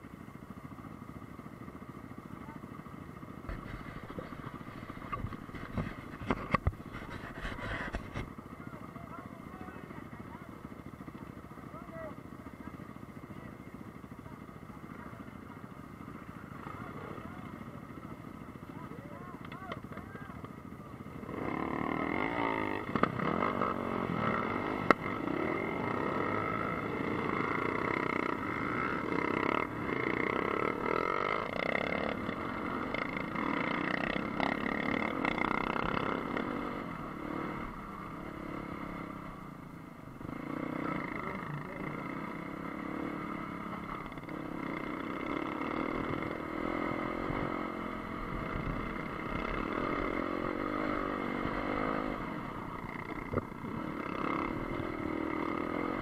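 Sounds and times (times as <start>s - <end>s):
dirt bike engines: 0.0s - 56.0s.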